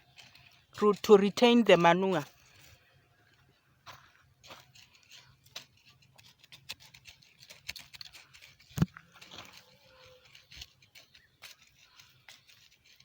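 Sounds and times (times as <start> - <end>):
soil scraping and crunching: 0.0 - 13.0.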